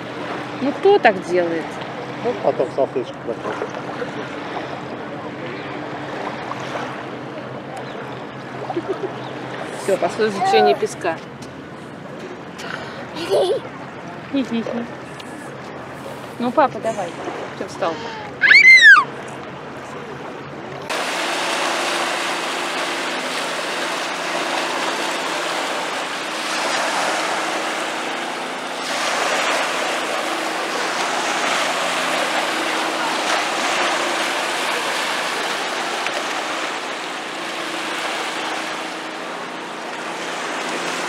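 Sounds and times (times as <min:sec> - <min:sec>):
small waves lapping on shore: 0:00.0 - 0:41.0.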